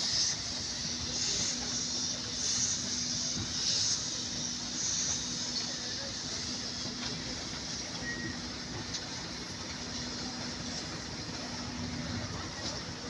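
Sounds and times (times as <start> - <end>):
high hiss: 0.0 - 13.0
locomotive engine hum: 0.0 - 13.0.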